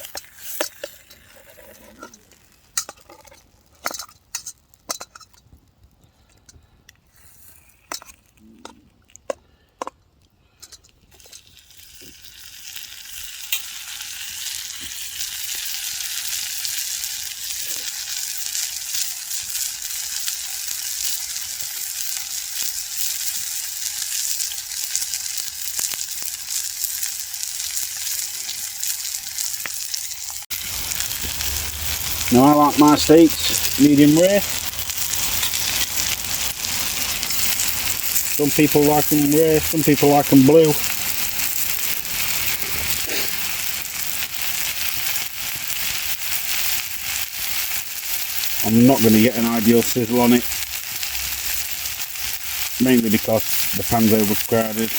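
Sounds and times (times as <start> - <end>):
steak sizzling in a frying pan: 0.0 - 5.4, 11.1 - 54.9.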